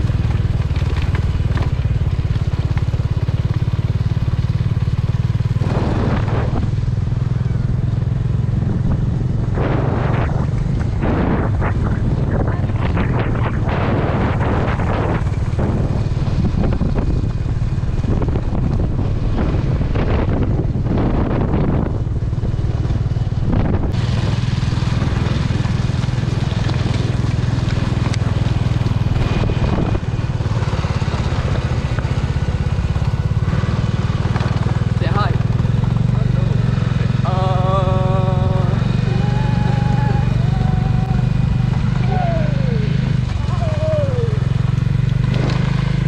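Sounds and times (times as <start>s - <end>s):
motorcycle engine running: 0.0s - 46.0s
wind rushing over microphone: 0.0s - 46.0s.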